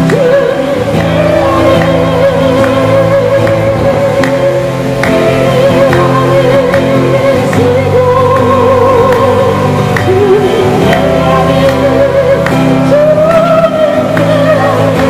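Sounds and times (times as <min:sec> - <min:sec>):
people singing praise song: 0:00.0 - 0:15.0
strummed acoustic guitars: 0:00.0 - 0:15.0.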